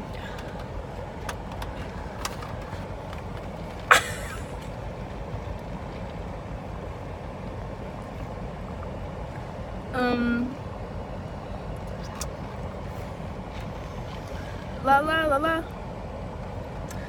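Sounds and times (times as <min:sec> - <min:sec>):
low rumble inside a car: 0:00.0 - 0:17.0.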